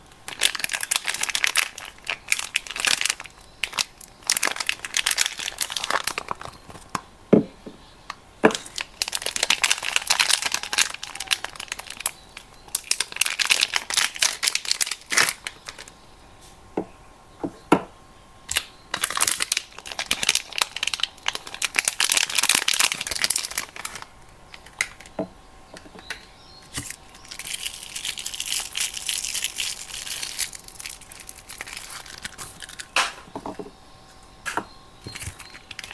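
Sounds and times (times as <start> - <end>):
wrappers crinkling and tearing: 0.2 - 7.0, 8.5 - 16.0, 18.5 - 25.2, 25.9 - 33.4, 35.0 - 35.9.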